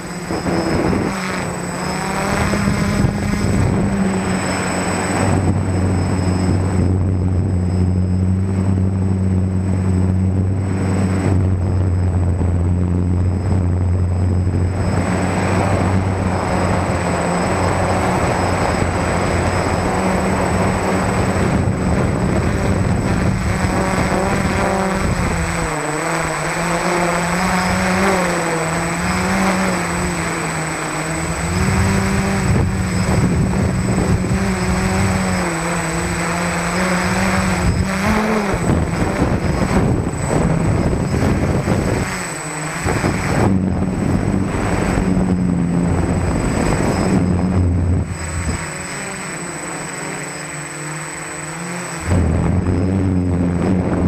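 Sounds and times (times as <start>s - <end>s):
drone motors whirring: 0.0s - 54.0s.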